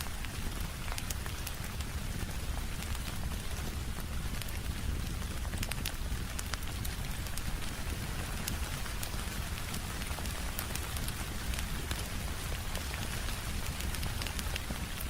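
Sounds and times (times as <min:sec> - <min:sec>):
fireplace fire crackling: 0:00.0 - 0:15.0
steady rain: 0:00.0 - 0:15.0.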